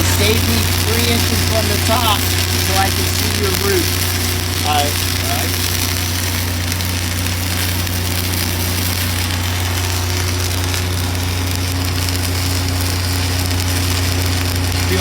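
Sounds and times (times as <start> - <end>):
low machine hum: 0.0 - 15.0
welding arc crackling: 0.0 - 15.0.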